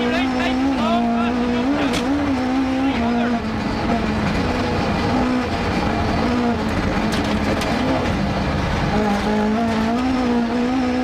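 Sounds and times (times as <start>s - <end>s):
rally car engine: 0.0s - 11.0s
road and tyre noise: 0.0s - 11.0s.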